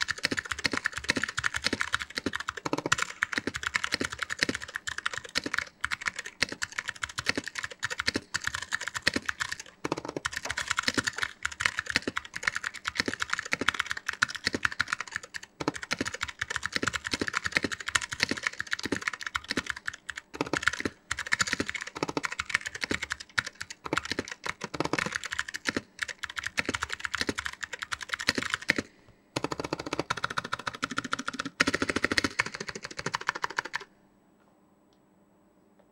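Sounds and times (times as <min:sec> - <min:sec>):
clicky mechanical keyboard typing: 0:00.0 - 0:33.9.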